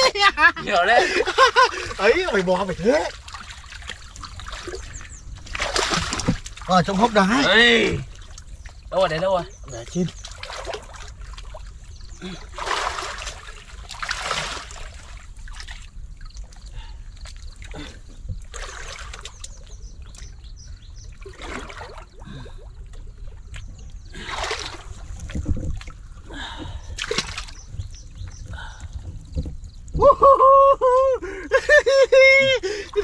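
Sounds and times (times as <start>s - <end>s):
muddy water splashing: 0.0s - 33.0s.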